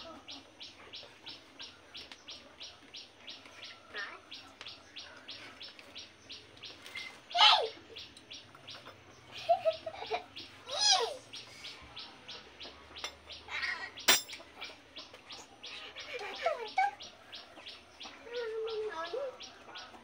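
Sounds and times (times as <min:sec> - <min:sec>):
birds chirping rapidly: 0:00.0 - 0:20.0
falling bird calls: 0:00.0 - 0:20.0.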